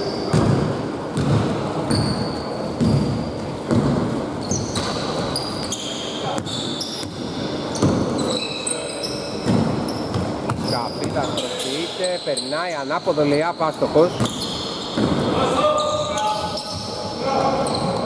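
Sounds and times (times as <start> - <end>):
sneakers squeaking on floor: 0.0 - 18.0.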